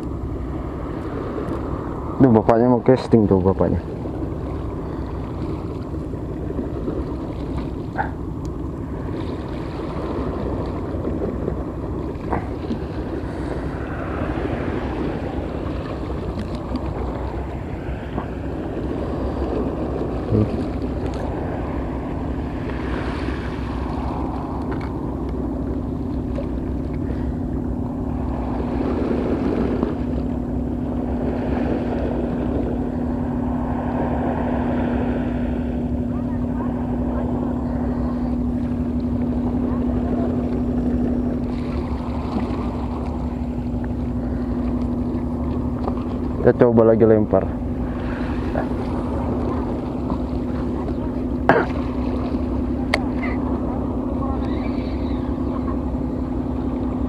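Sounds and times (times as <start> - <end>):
engine drone: 0.0 - 57.0
sea against seawall: 0.0 - 57.0
wind on microphone: 0.0 - 57.0.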